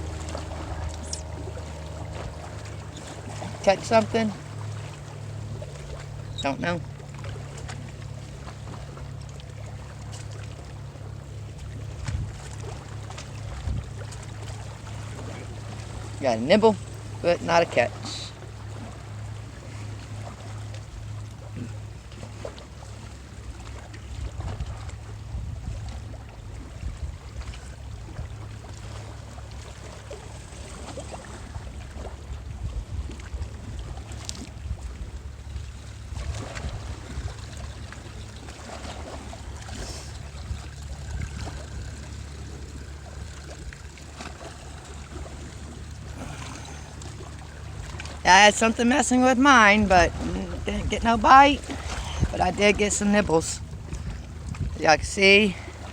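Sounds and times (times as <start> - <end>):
low rumble: 0.0 - 16.2, 18.6 - 55.9
small waves lapping on rocks: 0.0 - 55.9.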